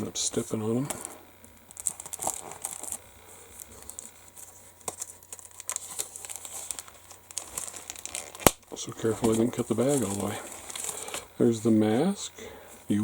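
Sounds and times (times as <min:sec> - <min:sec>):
plastic bag crinkling: 0:00.3 - 0:12.1.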